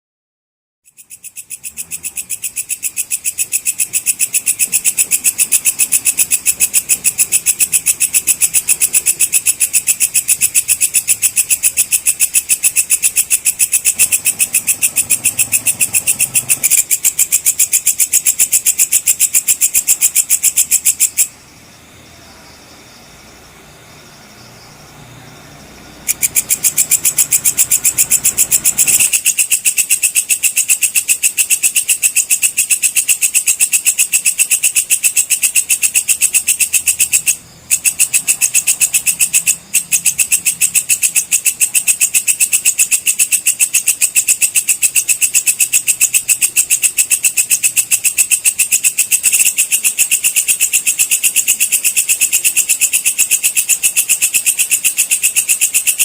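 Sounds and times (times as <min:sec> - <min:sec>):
insect pulsing trill: 0:00.8 - 0:56.0.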